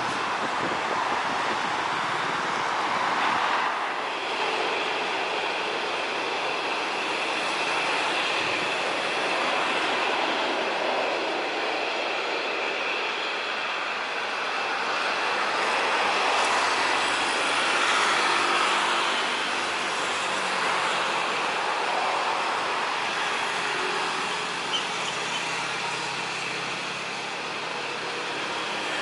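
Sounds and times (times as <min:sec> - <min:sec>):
jet engines whining: 0:00.2 - 0:29.0.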